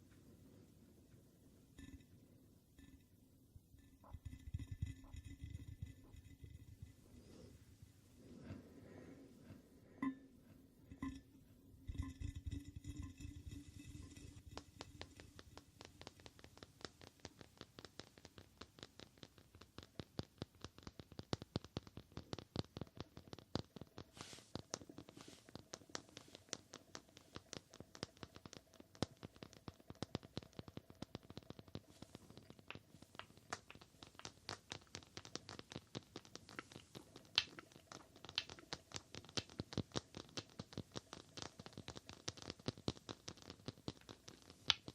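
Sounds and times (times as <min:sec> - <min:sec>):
rapid light tapping: 0:03.7 - 0:44.9.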